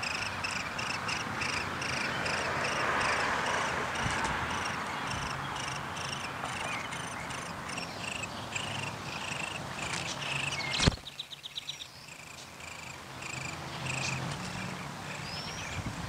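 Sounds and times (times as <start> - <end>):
quick run of ticks: 0.0 - 11.2, 12.1 - 14.8
nestlings begging with raspy calls: 0.0 - 15.9.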